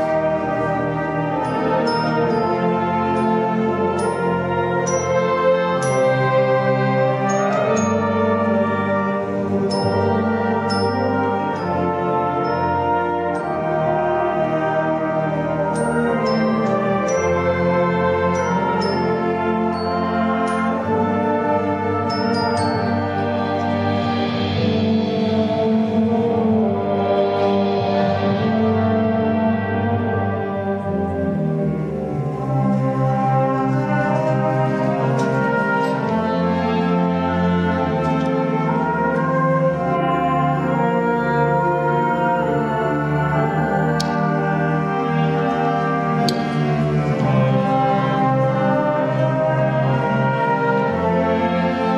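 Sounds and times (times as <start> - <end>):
brass band playing chords: 0.0 - 51.9.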